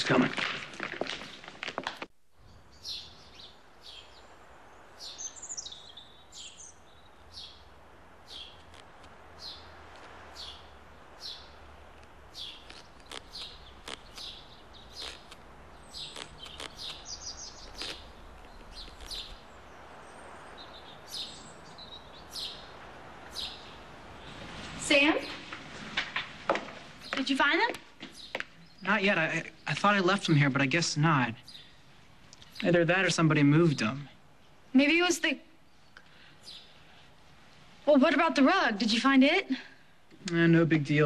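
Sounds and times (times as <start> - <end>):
birds chirping: 2.3 - 25.6, 26.6 - 39.9.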